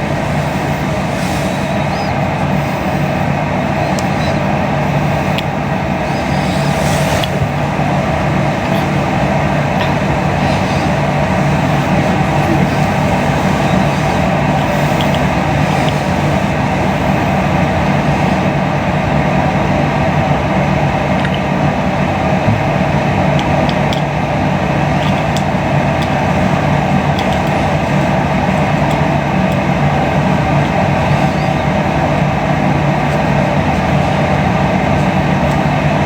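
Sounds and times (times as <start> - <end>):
steady rumbling with low hum: 0.0 - 36.0.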